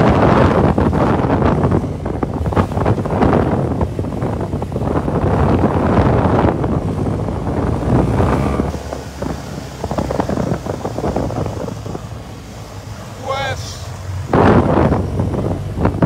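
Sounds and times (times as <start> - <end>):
motorcycle engine hum: 0.0 - 16.0
wind buffeting microphone: 0.0 - 16.0.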